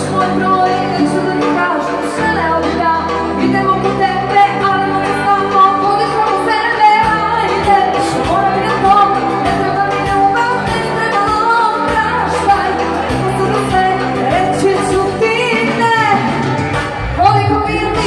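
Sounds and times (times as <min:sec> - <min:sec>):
steady bass line: 0:00.0 - 0:18.0
woman singing with vibrato: 0:00.0 - 0:18.0.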